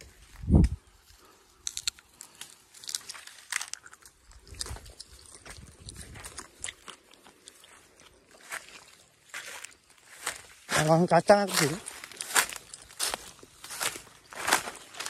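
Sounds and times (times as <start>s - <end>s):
dry stalks crackling and snapping: 0.0s - 15.0s
footsteps crunching dry leaves: 0.0s - 15.0s.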